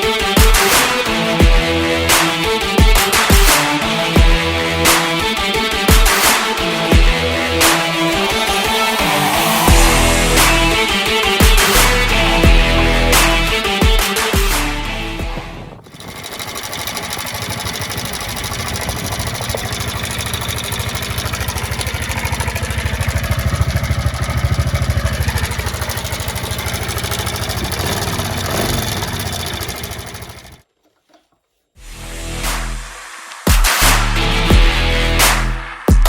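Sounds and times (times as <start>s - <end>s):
moped engine idling: 0.0s - 30.6s, 34.1s - 35.2s.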